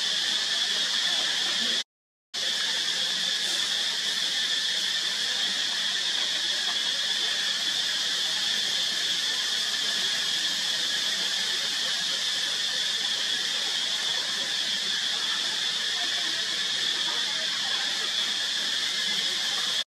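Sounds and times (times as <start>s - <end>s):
high-pitched insect chorus: 0.0s - 1.8s, 2.4s - 19.8s.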